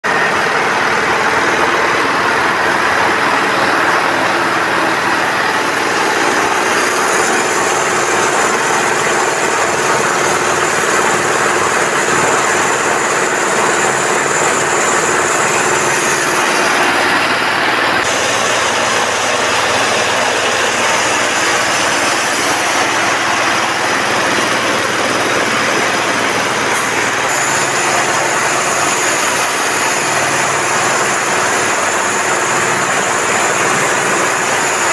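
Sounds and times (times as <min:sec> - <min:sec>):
farm feed machinery running: 0:00.0 - 0:34.9.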